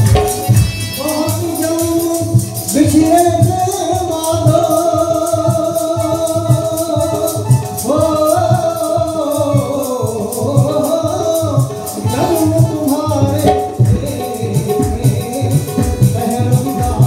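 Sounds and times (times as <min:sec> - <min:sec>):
drum beat: 0:00.0 - 0:17.0
harmonium: 0:00.0 - 0:17.0
man singing: 0:00.0 - 0:17.0
rhythmic rattle: 0:00.0 - 0:17.0.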